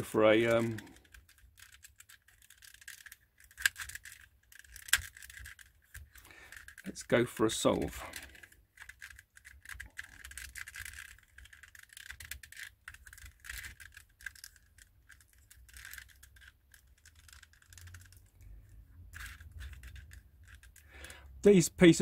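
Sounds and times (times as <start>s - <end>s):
twisty puzzle clicking and rattling: 0.0s - 22.0s.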